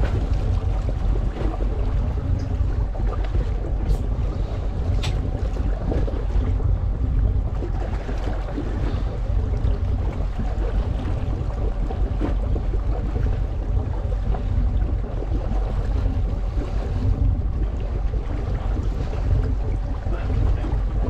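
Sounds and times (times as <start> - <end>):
boat engine low rumble: 0.0 - 21.0
water washing at stern: 0.0 - 21.0
wind: 0.0 - 21.0.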